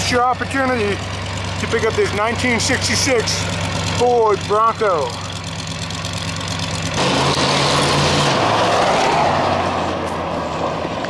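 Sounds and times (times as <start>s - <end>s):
truck engine idling and accelerating: 0.0s - 11.0s.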